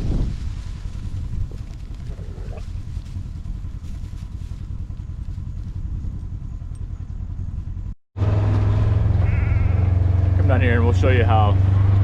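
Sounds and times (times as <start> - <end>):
vehicle engine running: 0.6 - 12.0.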